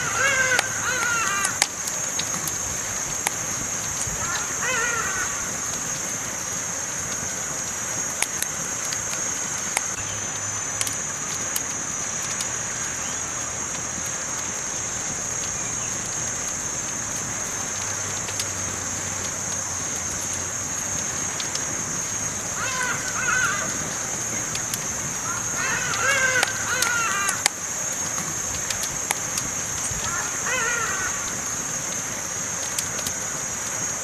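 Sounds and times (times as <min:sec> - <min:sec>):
campfire crackling: 0:00.0 - 0:34.0
sharp pops of fire: 0:00.0 - 0:34.0.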